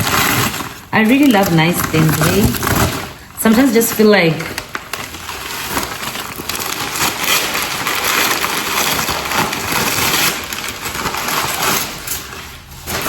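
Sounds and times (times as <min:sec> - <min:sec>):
packing material crinkling: 0:00.0 - 0:13.0.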